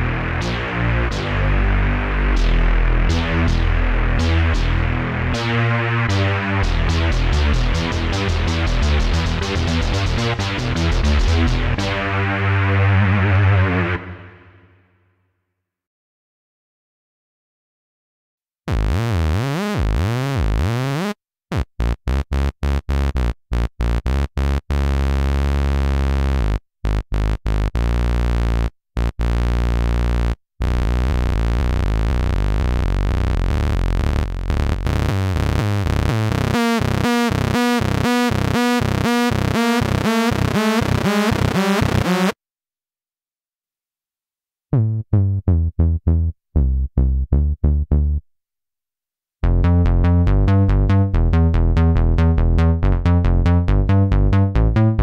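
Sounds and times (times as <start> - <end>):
synthesizer bass notes: 0.0 - 14.6, 18.7 - 42.4, 44.8 - 48.2, 49.4 - 55.0
synthesizer plucked notes: 0.0 - 14.6, 21.8 - 42.4, 44.8 - 48.2, 49.4 - 55.0.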